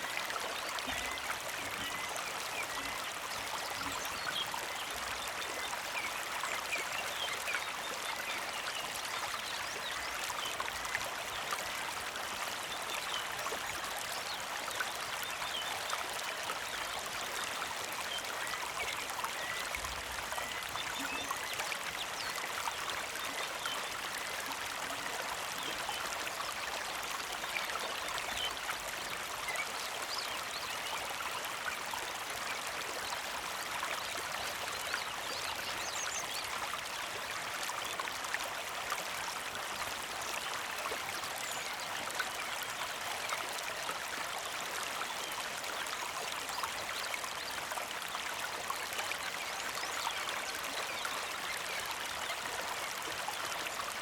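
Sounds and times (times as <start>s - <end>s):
creek flowing over rocks: 0.0s - 54.0s.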